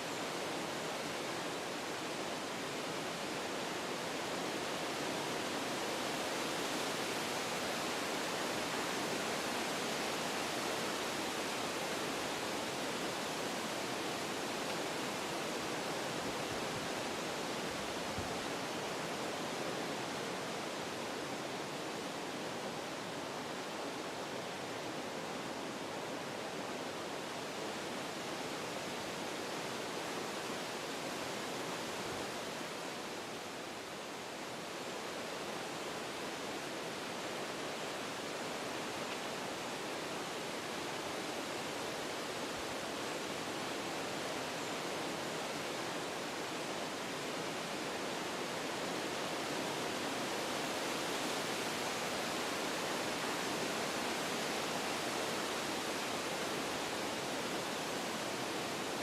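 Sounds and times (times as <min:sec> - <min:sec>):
wind through forest trees: 0:00.0 - 0:59.0.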